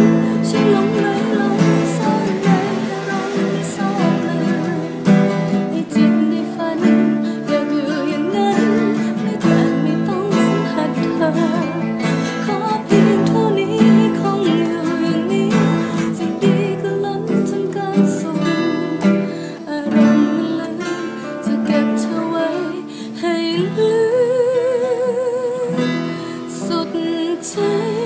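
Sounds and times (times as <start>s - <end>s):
acoustic guitar strumming: 0.0s - 28.0s
woman singing: 0.0s - 28.0s.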